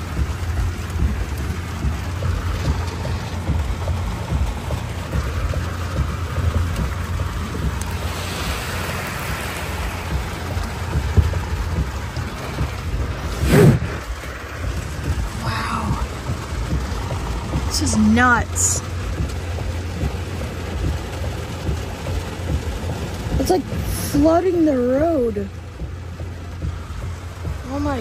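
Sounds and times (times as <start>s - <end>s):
heavy rain on car roof: 0.0s - 28.0s.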